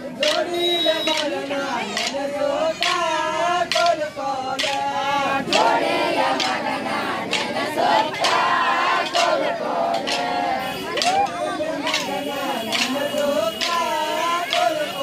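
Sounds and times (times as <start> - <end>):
group singing folk song: 0.0 - 15.0
sharp percussive beat: 0.1 - 15.0.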